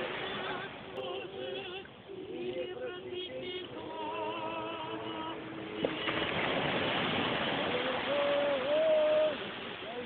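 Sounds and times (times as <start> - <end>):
surf washing ashore: 0.0 - 10.0
voices singing a hymn: 0.0 - 10.0.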